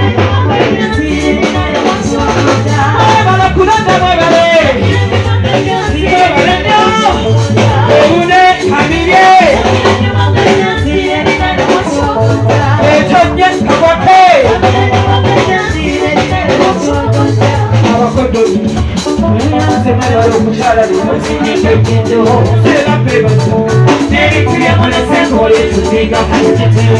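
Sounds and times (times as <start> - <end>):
bass line: 0.0 - 26.9
sung vocals: 0.0 - 26.9
upbeat pop music: 0.0 - 26.9
shaker percussion: 0.8 - 26.9.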